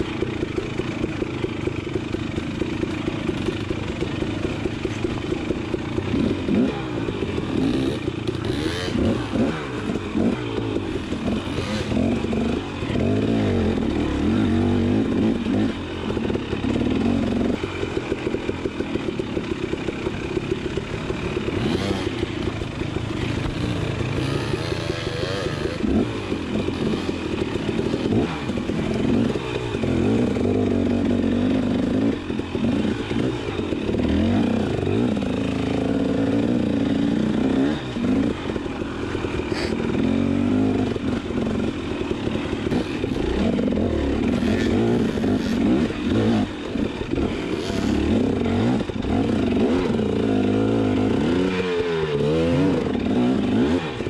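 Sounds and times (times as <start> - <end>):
off-road engine revving: 2.4 - 54.0.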